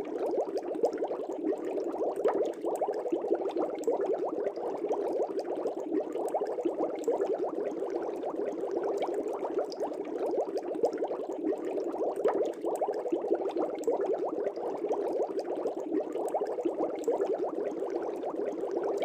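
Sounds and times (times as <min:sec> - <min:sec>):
aquarium bubbles gurgling: 0:00.0 - 0:19.0.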